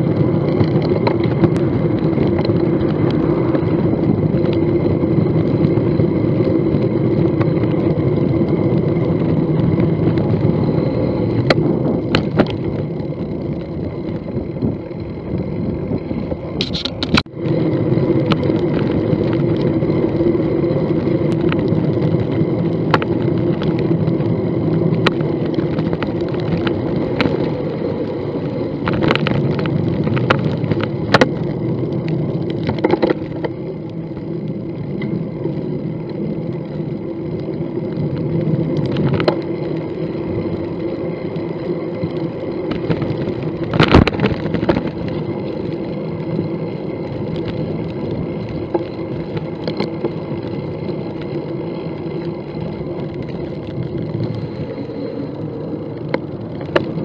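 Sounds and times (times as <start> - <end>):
bicycle clicks and rattles: 0.0 - 57.0
bicycle tyres rumbling on pavement: 0.0 - 57.0.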